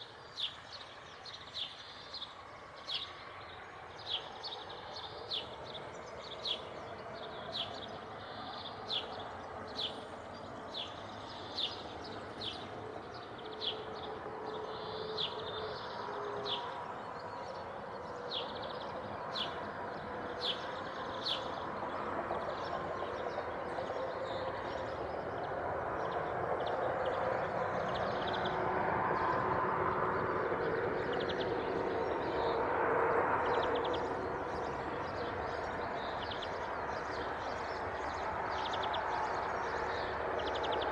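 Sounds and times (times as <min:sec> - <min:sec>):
outdoor background noise: 0:00.0 - 0:40.9
passing vehicle rumble: 0:01.9 - 0:40.9.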